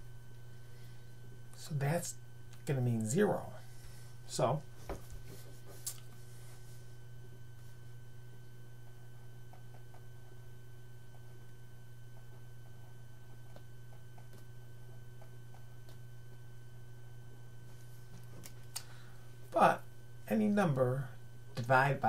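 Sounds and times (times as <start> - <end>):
low electrical hum: 0.0 - 22.0
thin high whine: 0.0 - 22.0.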